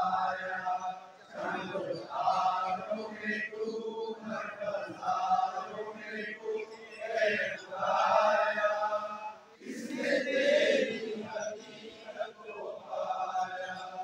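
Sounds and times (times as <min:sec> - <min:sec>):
men chanting a hymn: 0:00.0 - 0:14.0.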